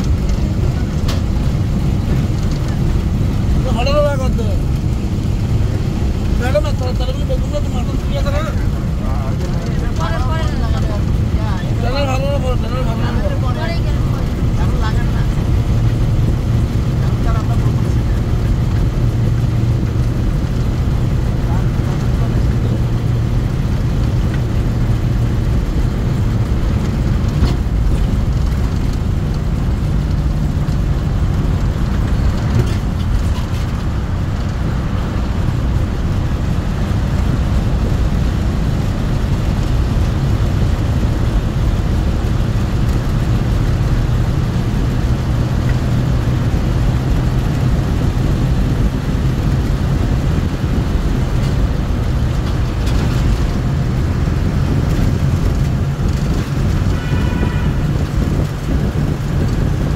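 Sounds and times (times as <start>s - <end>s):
car engine drone: 0.0s - 59.9s
tyre road rumble: 0.0s - 59.9s.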